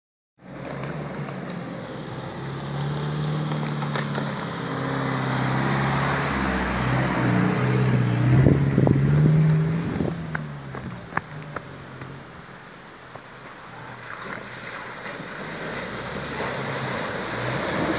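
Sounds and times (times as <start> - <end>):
engine crackling: 0.4 - 17.9
pickup truck engine driving: 0.4 - 17.9.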